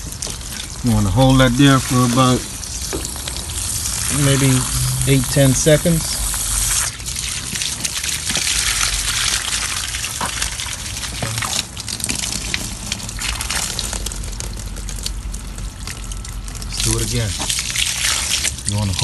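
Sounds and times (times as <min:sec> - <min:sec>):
water rushing through a pipe: 0:00.0 - 0:19.0.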